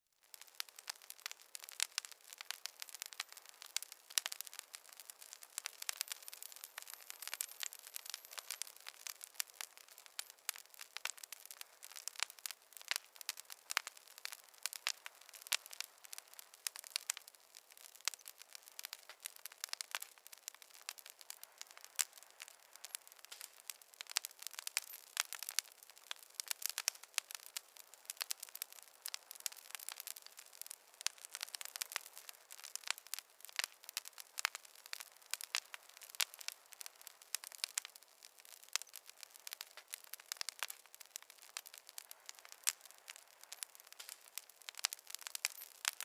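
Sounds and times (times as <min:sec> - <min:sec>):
wood fire crackling: 0:00.2 - 0:46.0.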